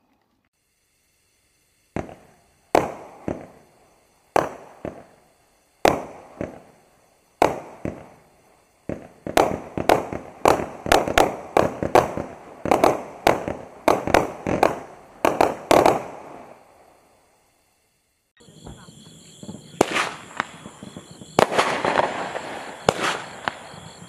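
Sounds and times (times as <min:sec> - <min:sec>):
firework reports echoing: 0:01.9 - 0:16.6, 0:18.4 - 0:24.0.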